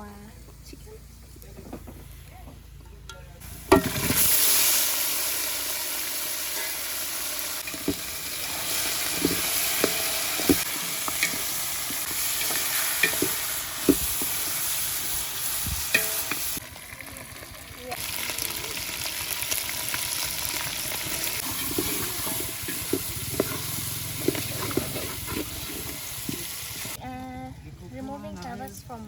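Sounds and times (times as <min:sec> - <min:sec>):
loud sizzling frying: 0:03.4 - 0:27.0.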